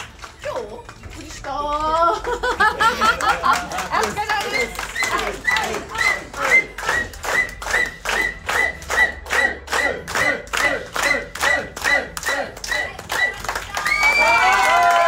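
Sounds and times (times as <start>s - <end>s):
people clapping in unison: 0.0s - 15.0s.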